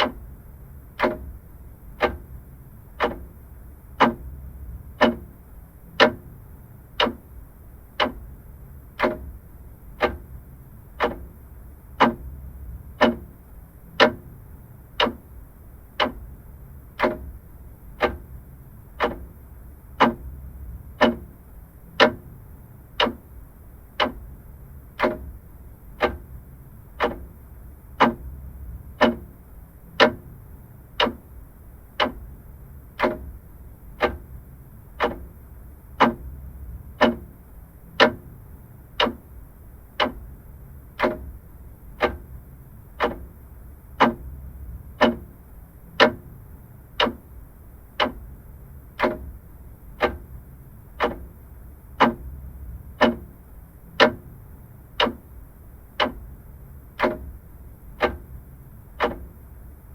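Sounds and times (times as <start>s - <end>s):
faint low hum: 0.0s - 59.9s
mechanical clock ticking: 0.0s - 59.9s.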